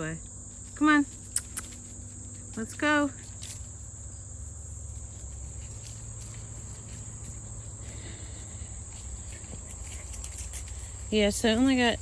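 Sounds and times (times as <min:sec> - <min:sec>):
insects chirring: 0:00.0 - 0:12.0
low steady rumble: 0:00.0 - 0:12.0.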